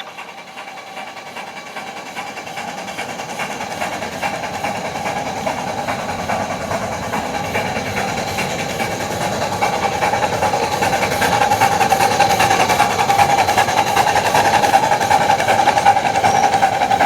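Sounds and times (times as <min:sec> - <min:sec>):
train running on track: 0:00.0 - 0:17.0.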